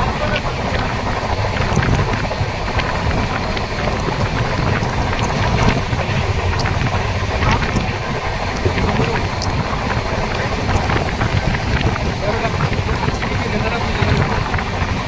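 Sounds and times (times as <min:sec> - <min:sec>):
train clicks and rattles: 0:00.0 - 0:15.0
train rumbling on track: 0:00.0 - 0:15.0
wind buffeting microphone: 0:00.0 - 0:15.0.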